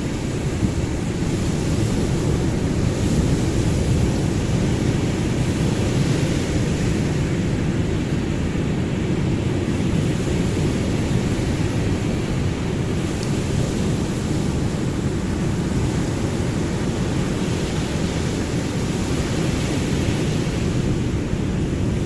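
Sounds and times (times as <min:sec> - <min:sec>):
ocean waves washing: 0:00.0 - 0:22.0.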